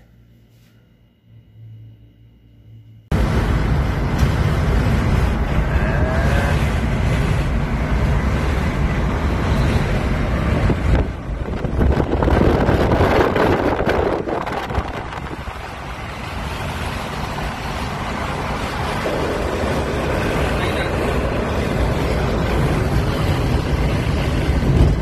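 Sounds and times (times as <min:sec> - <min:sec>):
road and wind noise in car: 0:03.1 - 0:25.0
wind on microphone: 0:03.1 - 0:25.0.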